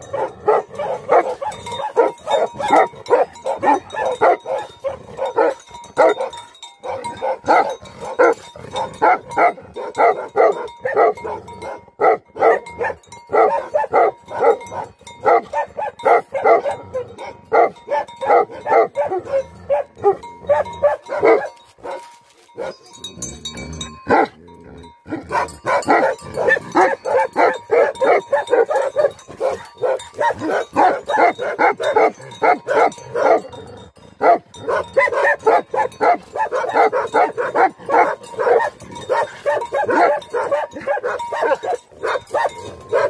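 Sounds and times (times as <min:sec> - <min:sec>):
dog barking rapidly: 0:00.0 - 0:22.8, 0:25.2 - 0:33.5, 0:34.2 - 0:43.0.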